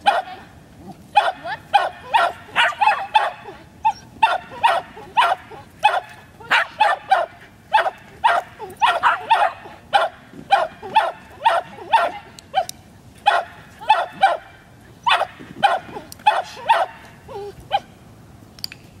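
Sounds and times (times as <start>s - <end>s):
dog barking: 0.0s - 0.5s, 1.1s - 17.0s.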